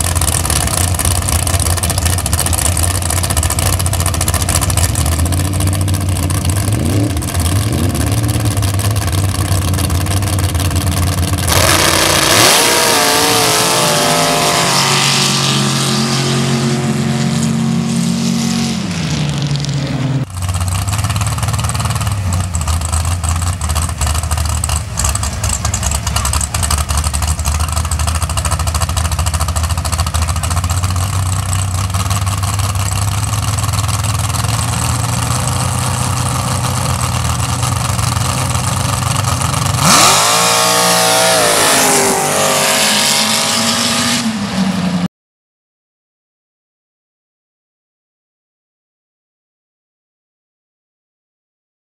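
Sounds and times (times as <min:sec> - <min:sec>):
race engine idling and revving: 0:00.0 - 0:45.1.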